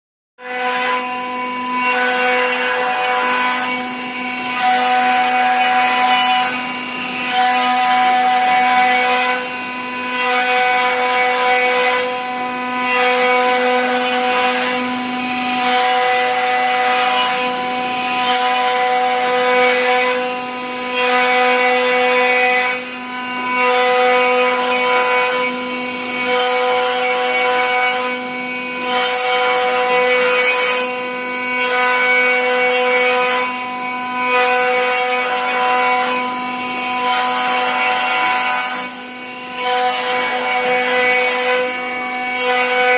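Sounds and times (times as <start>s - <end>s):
router spindle whining: 0.4s - 42.9s.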